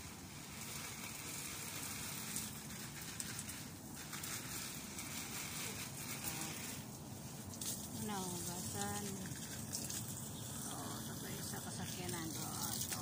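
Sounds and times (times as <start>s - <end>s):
hose spraying water: 0.0s - 13.0s
water splashing on car body: 0.0s - 13.0s.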